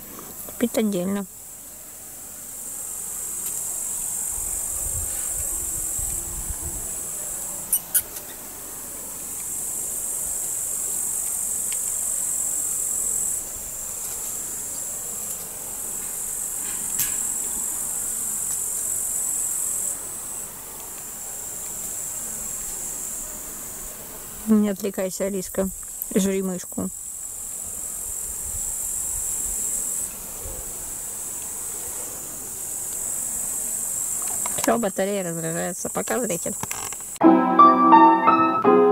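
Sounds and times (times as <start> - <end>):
insects chirring: 0.0 - 37.2.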